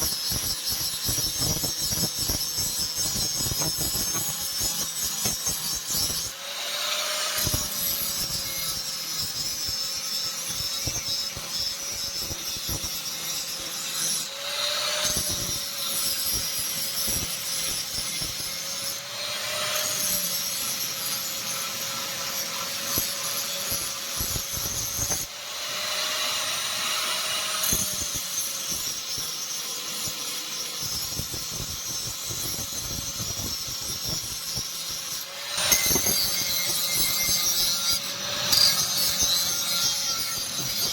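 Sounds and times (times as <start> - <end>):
electric grinder grinding steel: 0.0 - 40.9.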